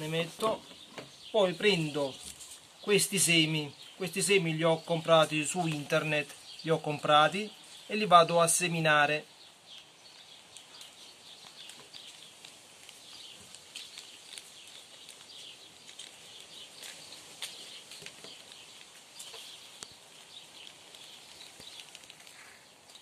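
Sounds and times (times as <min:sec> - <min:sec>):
seed packet crinkling: 0:00.0 - 0:09.1, 0:09.7 - 0:23.0
seeds sprinkling on paper: 0:00.0 - 0:23.0
small birds chirping: 0:00.0 - 0:23.0.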